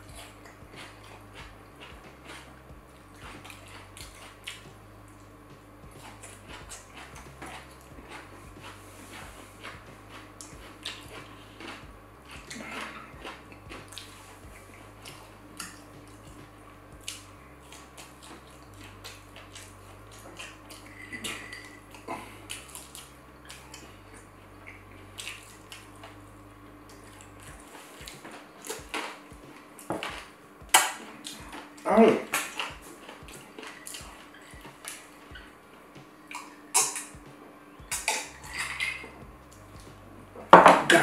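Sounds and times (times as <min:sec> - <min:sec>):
close chewing and mouth sounds: 0:00.0 - 0:41.0
faint steady hum: 0:00.0 - 0:41.0.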